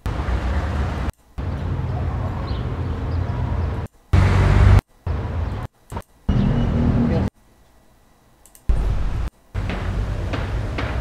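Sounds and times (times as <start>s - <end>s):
traffic rumble: 0.0s - 7.3s, 8.7s - 11.0s.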